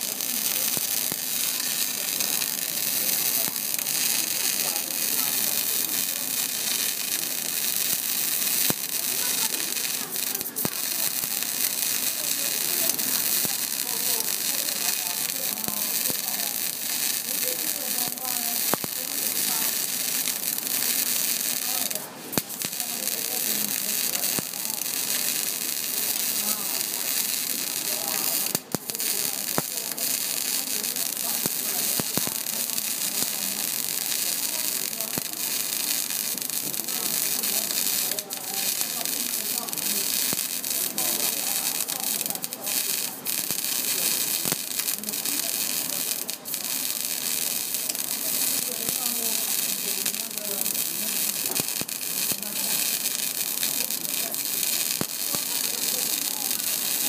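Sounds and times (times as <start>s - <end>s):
arc welding crackling hiss: 0.0s - 57.0s.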